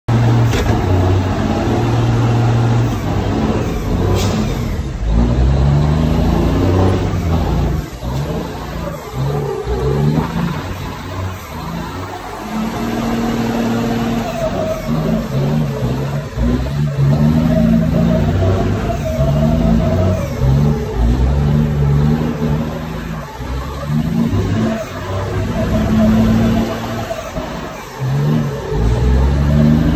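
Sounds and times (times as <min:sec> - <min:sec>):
diesel truck engine revving: 0:00.0 - 0:29.9.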